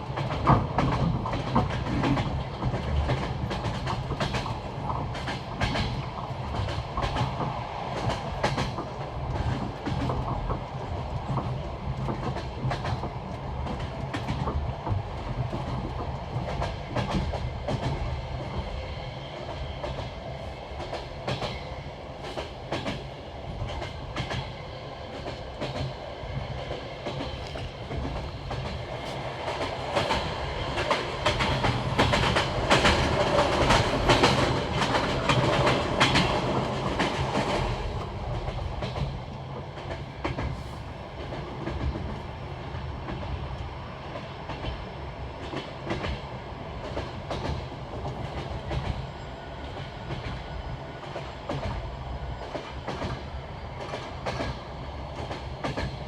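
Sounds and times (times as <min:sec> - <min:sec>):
low train rumble: 0:00.0 - 0:56.0
train wheels clicking over rail joints: 0:00.1 - 0:18.8, 0:20.8 - 0:42.3, 0:44.2 - 0:56.0.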